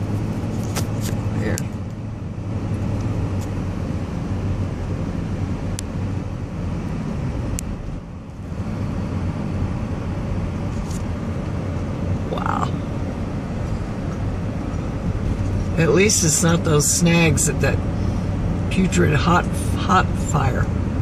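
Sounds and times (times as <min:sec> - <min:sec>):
engine and tyre rumble: 0:00.0 - 0:21.0.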